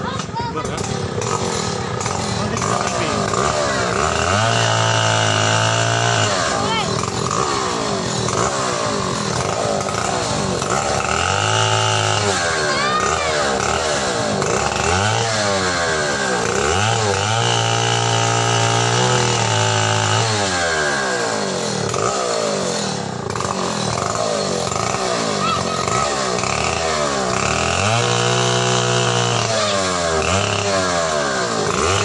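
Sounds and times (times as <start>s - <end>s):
chainsaw cutting branches: 0.0s - 32.0s.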